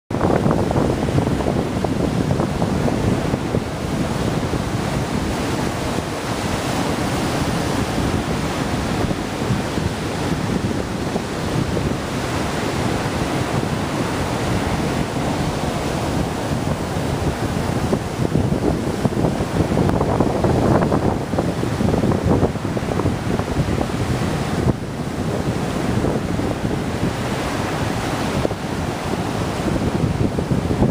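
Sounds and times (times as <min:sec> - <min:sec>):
ocean surf breaking on beach: 0:00.1 - 0:30.9
wind buffeting microphone: 0:00.1 - 0:30.9.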